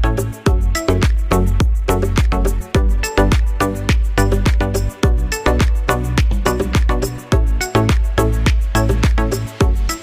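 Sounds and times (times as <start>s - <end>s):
music with fast beat and heavy bass: 0.0s - 10.0s.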